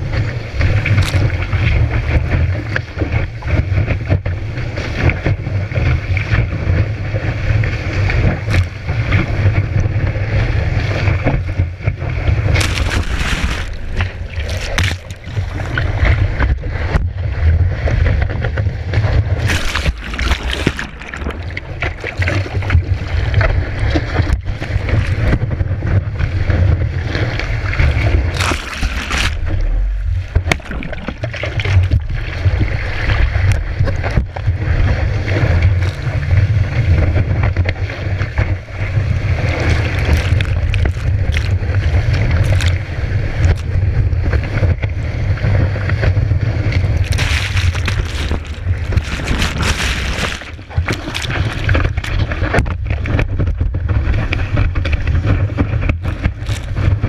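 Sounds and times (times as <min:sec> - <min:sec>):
water rushing: 0:00.0 - 0:03.9, 0:05.8 - 0:57.0
wind buffeting microphone: 0:00.0 - 0:57.0.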